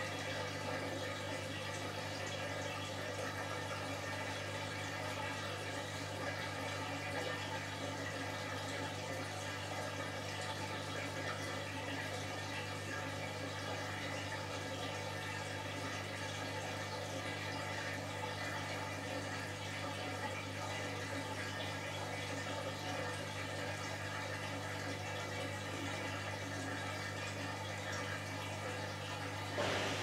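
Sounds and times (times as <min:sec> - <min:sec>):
washing machine water running: 0:00.0 - 0:30.0.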